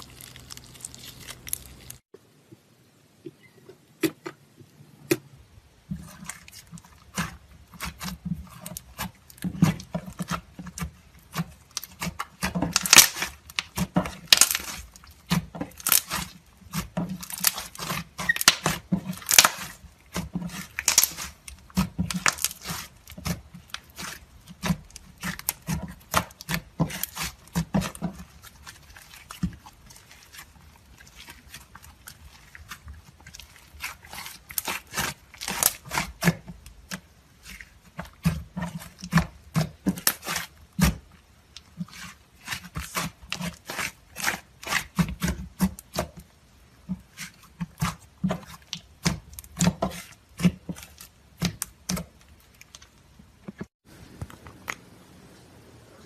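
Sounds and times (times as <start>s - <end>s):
slime squelching: 0.0s - 2.1s, 3.2s - 53.8s.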